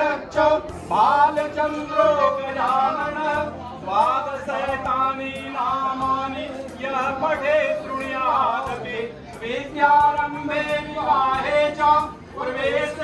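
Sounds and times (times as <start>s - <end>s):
low musical backing: 0.0s - 13.0s.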